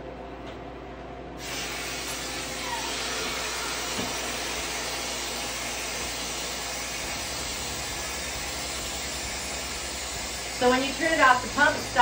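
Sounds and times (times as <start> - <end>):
air hissing into vacuum chamber: 1.4 - 12.0.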